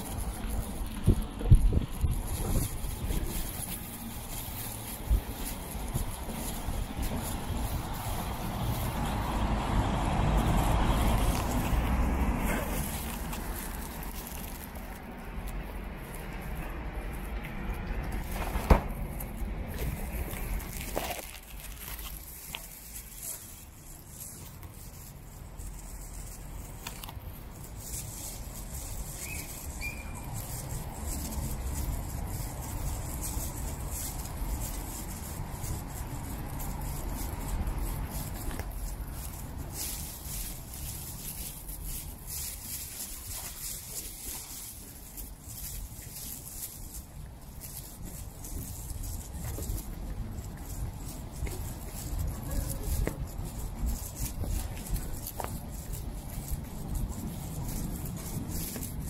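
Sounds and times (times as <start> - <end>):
footsteps on wet brick paving: 0.0 - 59.0
street traffic rumble: 0.0 - 59.0.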